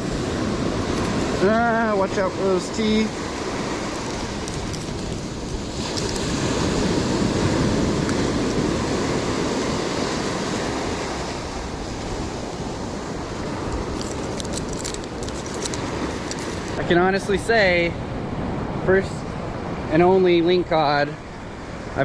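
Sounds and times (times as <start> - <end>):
waves breaking on beach: 0.0 - 22.0.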